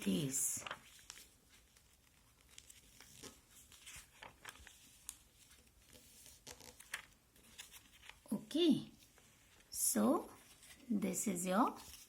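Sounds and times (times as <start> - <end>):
paper crinkling and folding: 0.0 - 8.4, 9.0 - 12.0.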